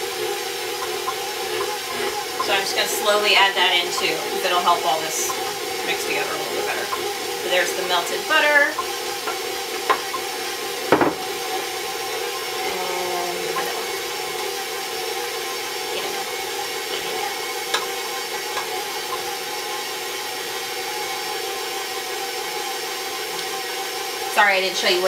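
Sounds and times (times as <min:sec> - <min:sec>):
stand mixer motor running: 0:00.0 - 0:25.0.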